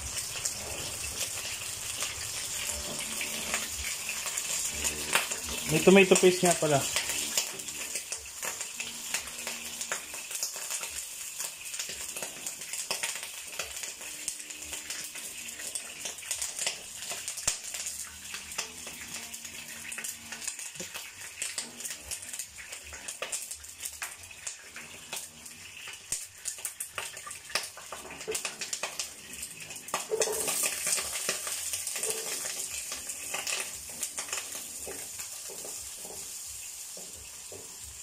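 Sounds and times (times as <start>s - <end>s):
oil sizzling in a pan: 0.0s - 38.0s.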